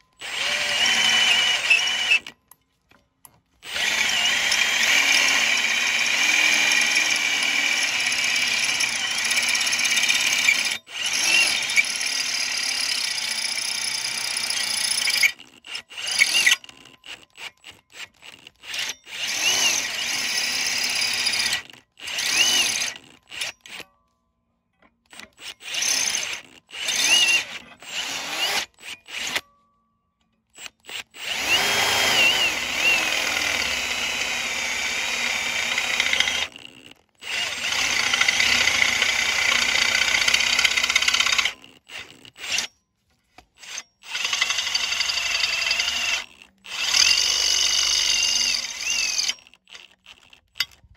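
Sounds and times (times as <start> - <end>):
cordless drill boring into steel: 0.0 - 2.4, 3.6 - 23.9, 25.0 - 29.5, 30.5 - 42.8, 43.6 - 50.9.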